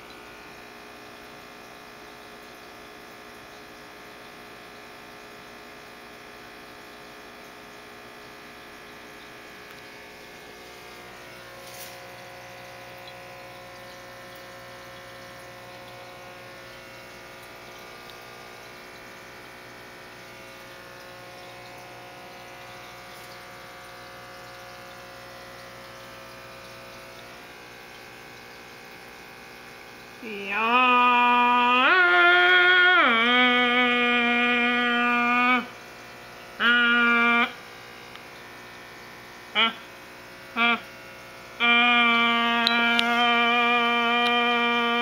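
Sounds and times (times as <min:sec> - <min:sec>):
aquarium pump humming: 0:00.0 - 0:45.0.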